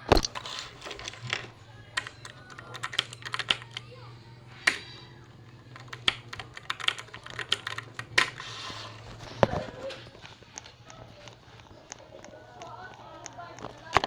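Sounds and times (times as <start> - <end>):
faint low hum: 0.0 - 14.0
keyboard keys clicking: 0.0 - 14.0.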